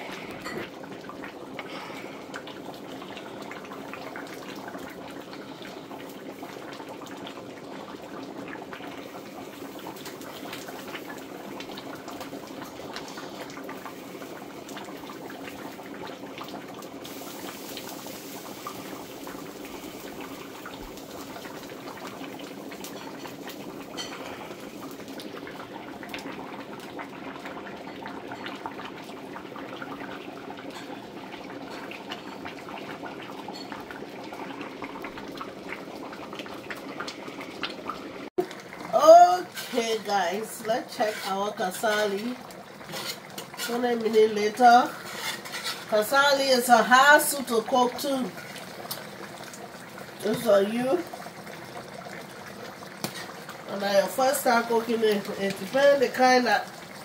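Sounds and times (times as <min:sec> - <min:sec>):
soup boiling and bubbling: 0:00.0 - 0:57.0.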